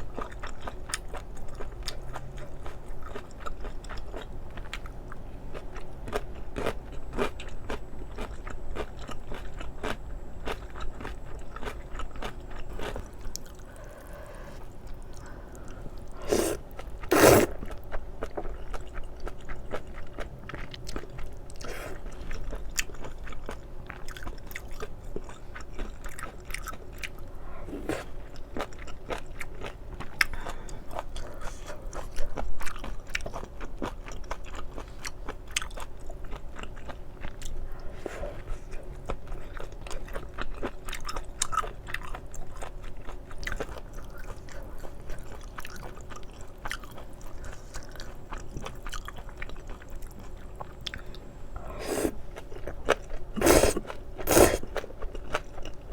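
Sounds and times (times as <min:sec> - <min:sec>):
close chewing and biting food: 0:00.0 - 0:55.9.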